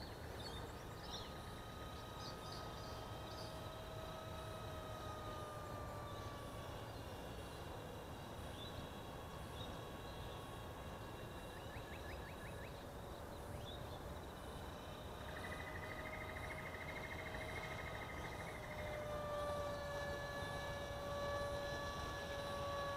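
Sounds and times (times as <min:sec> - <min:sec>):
distant model plane motor whining: 0:00.0 - 0:22.9.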